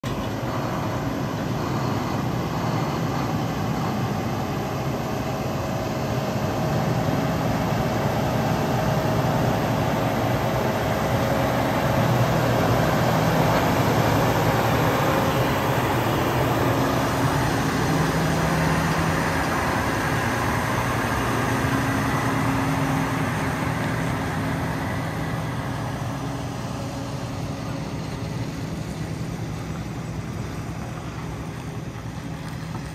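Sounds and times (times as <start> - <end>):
tractor diesel engine idling: 0.0 - 32.9.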